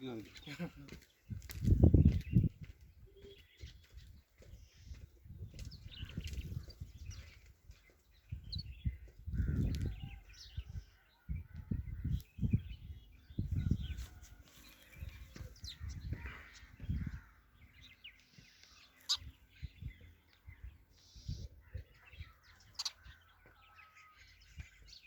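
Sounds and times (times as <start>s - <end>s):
birds chirping and calling: 0.0s - 25.0s.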